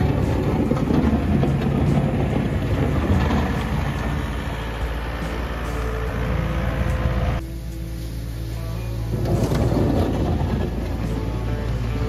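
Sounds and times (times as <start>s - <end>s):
wheel loader diesel engine rumbling: 0.0s - 12.0s.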